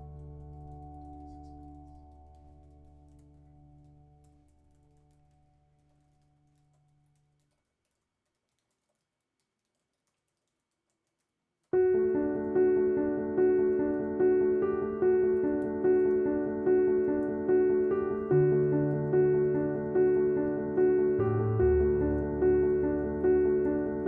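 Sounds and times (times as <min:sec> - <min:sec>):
piano chords: 0:00.0 - 0:07.2, 0:11.8 - 0:24.0.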